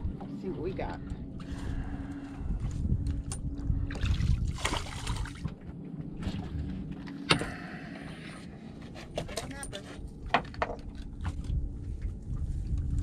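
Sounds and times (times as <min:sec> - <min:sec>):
water lapping against boat hull: 0:00.0 - 0:07.8, 0:08.4 - 0:13.0.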